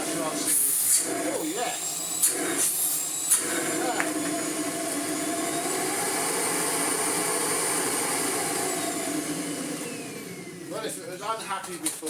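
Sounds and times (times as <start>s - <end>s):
vacuum cleaner running: 0.0s - 11.3s.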